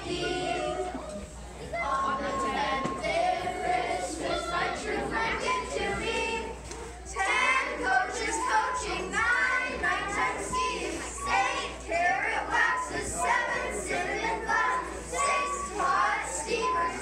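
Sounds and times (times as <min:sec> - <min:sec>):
children and adults singing in chorus: 0:00.0 - 0:17.0.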